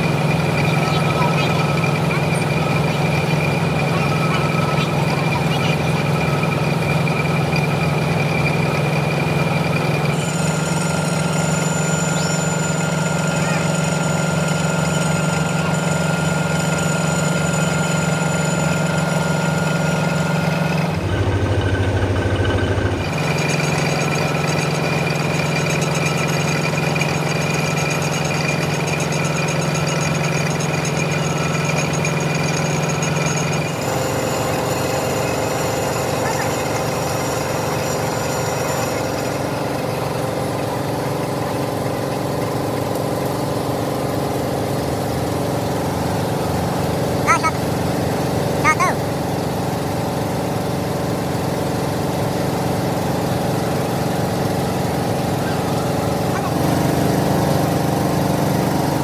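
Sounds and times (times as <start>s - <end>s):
metalworking machine humming: 0.0s - 59.0s.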